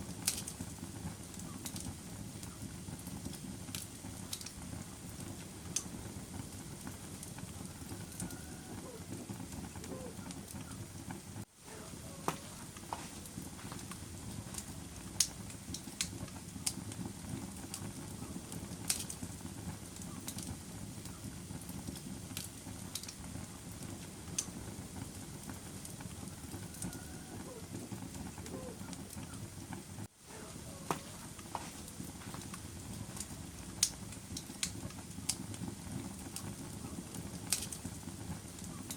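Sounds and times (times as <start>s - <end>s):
fire flames rushing: 0.0s - 38.9s
wood crackling and popping: 0.0s - 38.9s.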